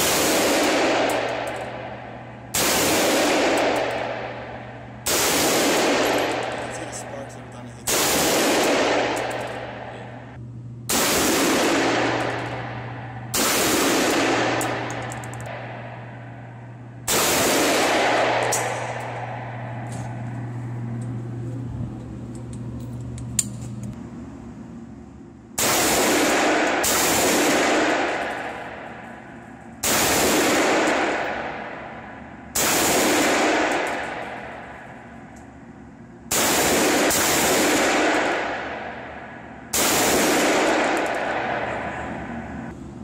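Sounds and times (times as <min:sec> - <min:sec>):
gunshots echoing indoors: 0:00.0 - 0:21.2, 0:25.5 - 0:42.8.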